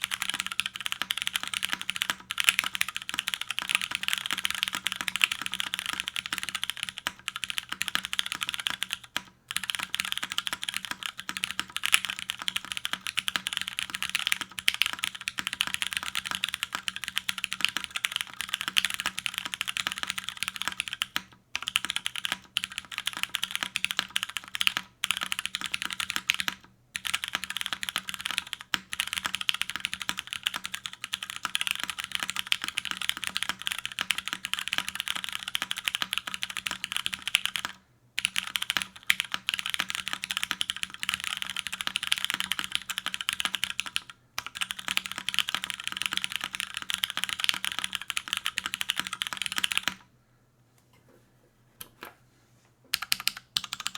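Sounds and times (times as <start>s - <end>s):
fast typing on mechanical keyboard: 0.0s - 50.0s, 53.0s - 53.9s.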